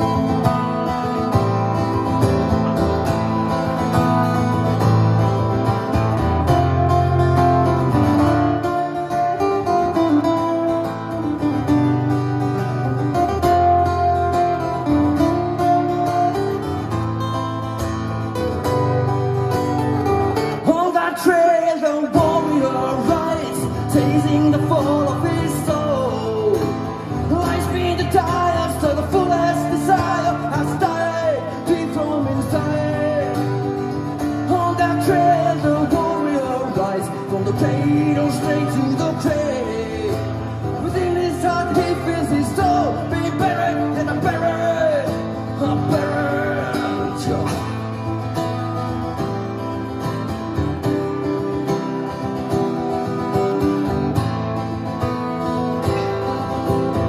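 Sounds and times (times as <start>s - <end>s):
acoustic guitars strummed: 0.0s - 57.0s.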